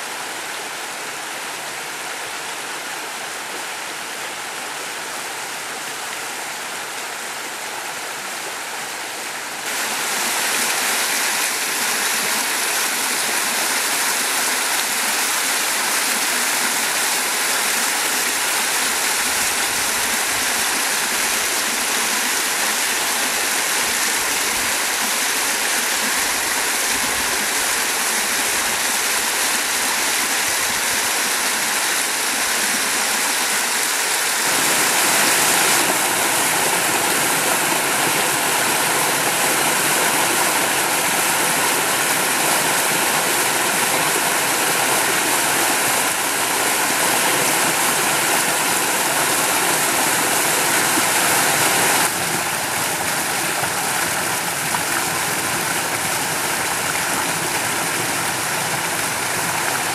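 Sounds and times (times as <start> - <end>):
stream rushing over boulders: 0.0 - 59.9.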